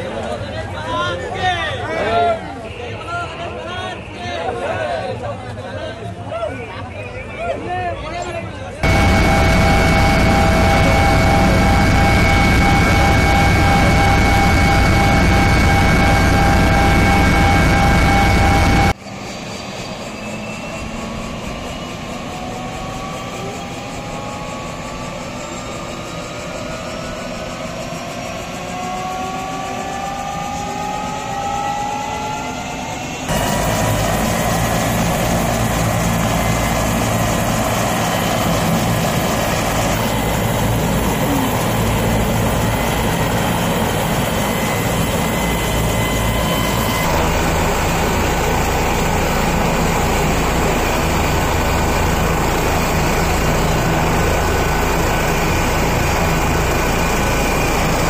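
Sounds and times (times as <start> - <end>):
helicopter rotors beating: 8.8 - 58.0
helicopter turbine whine: 8.8 - 58.0.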